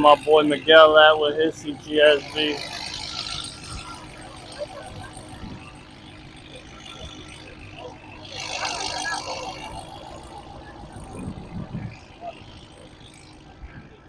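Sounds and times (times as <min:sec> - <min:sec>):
cars driving past: 0:00.0 - 0:13.9
background chatter: 0:00.0 - 0:14.0.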